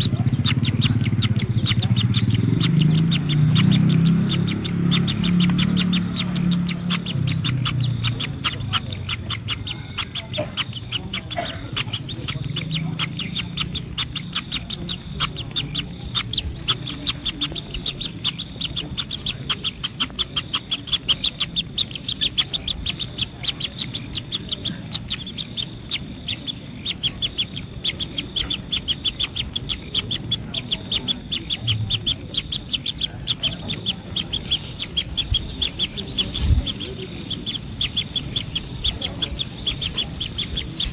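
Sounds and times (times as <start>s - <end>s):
bird chirping rapidly: 0.0s - 40.9s
high-pitched insect drone: 0.0s - 40.9s.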